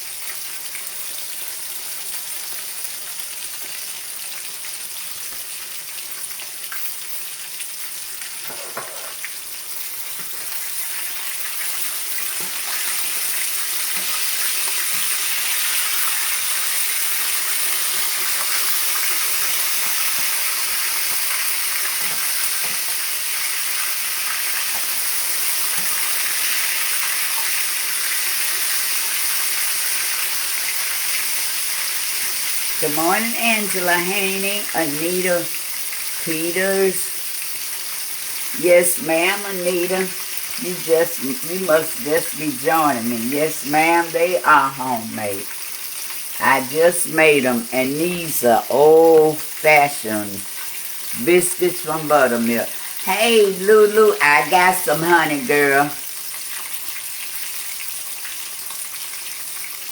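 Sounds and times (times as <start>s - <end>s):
chicken sizzling in hot oil: 0.0s - 38.6s, 39.2s - 43.2s, 45.3s - 46.6s, 50.2s - 51.6s, 52.4s - 53.1s, 53.8s - 59.9s.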